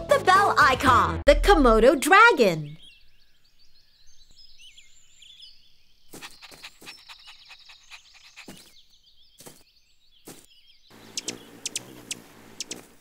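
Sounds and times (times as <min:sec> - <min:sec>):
cartoon birds chirping: 0:01.8 - 0:13.0.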